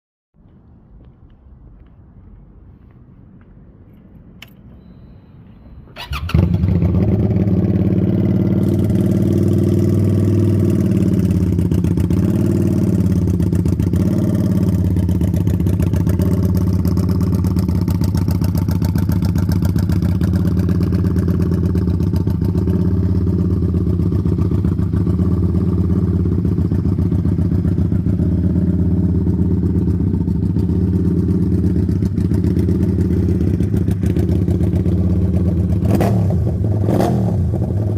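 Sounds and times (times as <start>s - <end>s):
motorcycle engine starting and idling: 5.8s - 37.9s.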